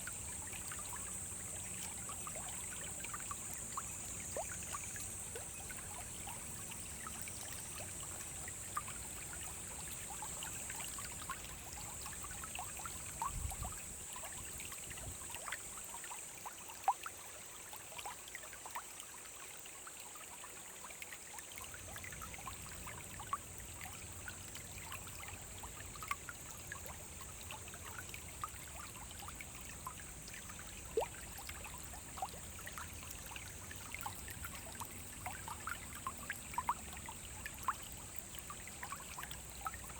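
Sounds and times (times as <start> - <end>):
brook running over stones: 0.0 - 39.9.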